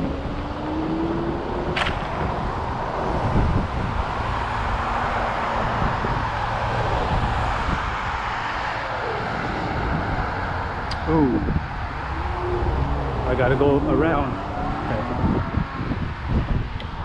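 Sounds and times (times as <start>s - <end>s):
road traffic rushing past: 0.0s - 17.0s
wind rumbling on microphone: 0.0s - 17.0s.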